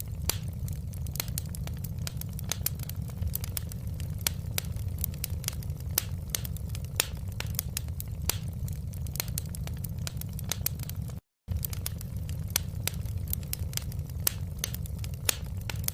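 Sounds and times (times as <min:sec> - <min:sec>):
wood fire crackling: 0:00.0 - 0:15.9.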